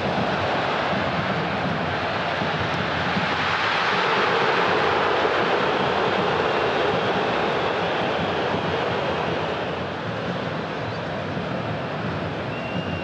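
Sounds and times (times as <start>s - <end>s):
stadium crowd roar: 0.0s - 13.0s.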